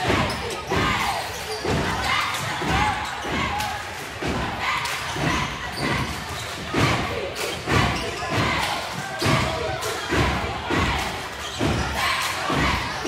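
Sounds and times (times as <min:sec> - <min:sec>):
voices echoing: 0:00.0 - 0:13.0.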